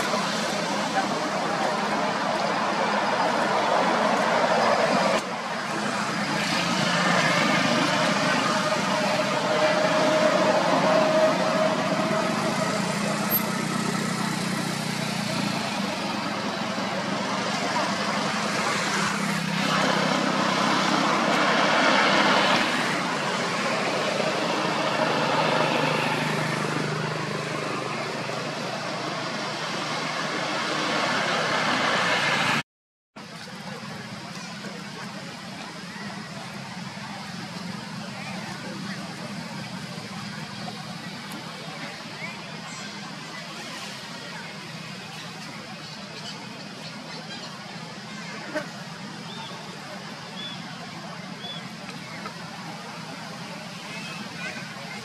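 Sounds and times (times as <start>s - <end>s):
road traffic noise: 0.0s - 55.0s
vehicle engine and tyre noise: 0.0s - 55.0s.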